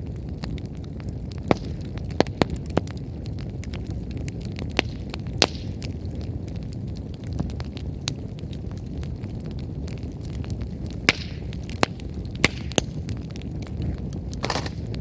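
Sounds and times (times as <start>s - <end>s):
bonfire crackles and pops: 0.0s - 15.0s
flames rushing: 0.0s - 15.0s.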